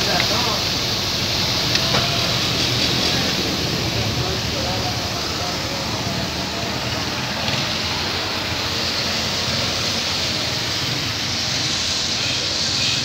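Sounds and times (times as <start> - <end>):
bus engines rumbling and hissing: 0.0 - 13.0.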